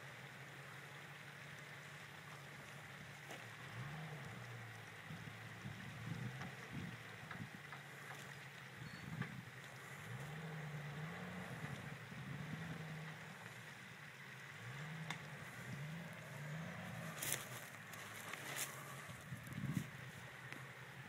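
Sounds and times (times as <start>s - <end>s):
engine revving under load: 1.5s - 21.0s.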